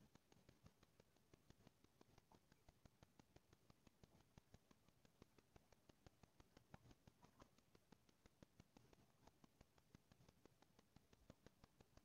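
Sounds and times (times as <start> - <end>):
rapid faint clicking: 0.0 - 12.0.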